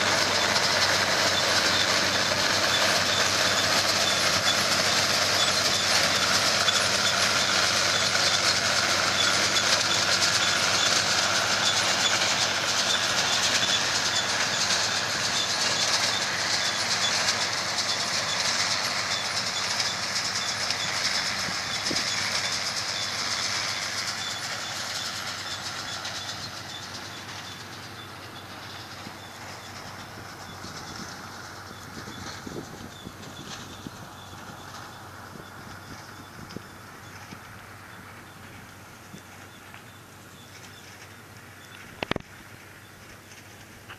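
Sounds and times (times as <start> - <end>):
combine harvester rattle and whir: 0.0 - 43.9.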